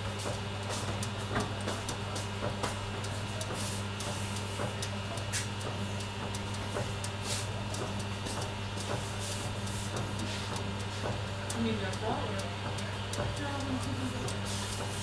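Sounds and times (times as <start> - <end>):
oven electrical hum: 0.0 - 15.0
soft ticks and crackles: 0.2 - 15.0.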